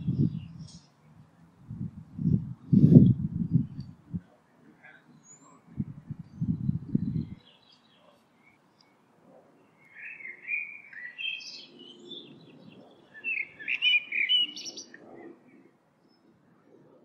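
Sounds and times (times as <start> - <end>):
songbird chirping: 0.0 - 16.4.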